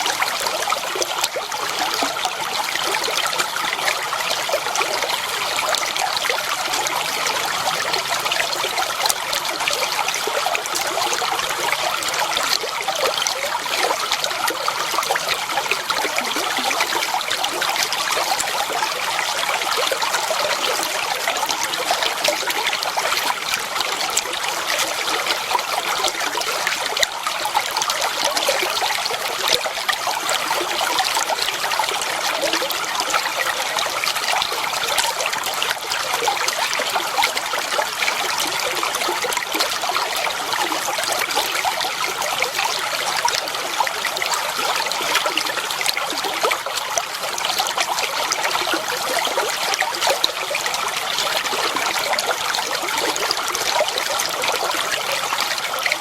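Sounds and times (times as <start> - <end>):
water flowing and trickling: 0.0 - 56.0.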